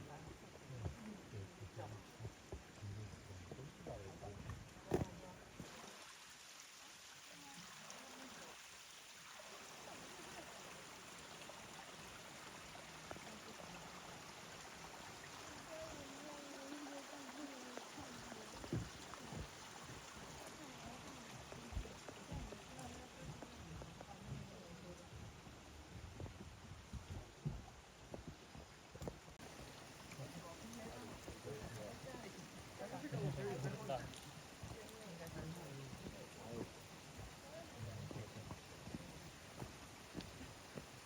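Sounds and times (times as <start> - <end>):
running water: 0.0 - 41.0.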